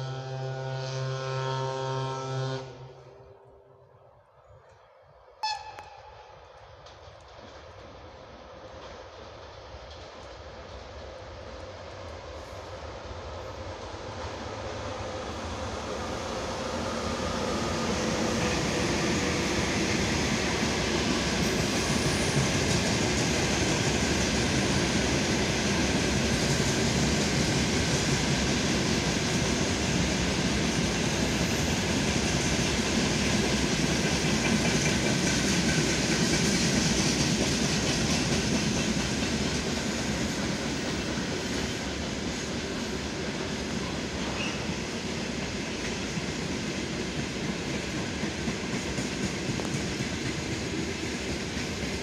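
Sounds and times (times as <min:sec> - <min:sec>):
freight train wheels on track: 0:00.0 - 0:52.0.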